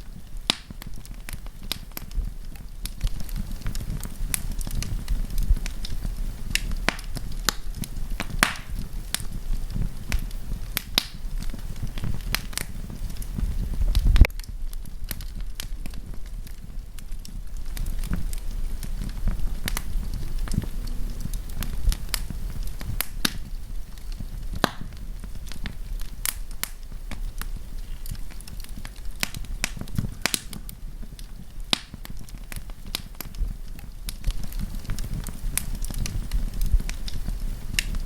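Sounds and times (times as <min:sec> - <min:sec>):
campfire crackling: 0:00.0 - 0:38.0.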